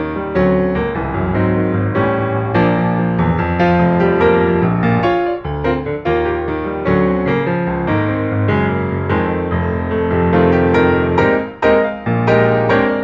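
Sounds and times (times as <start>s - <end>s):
piano background music: 0.0s - 13.0s.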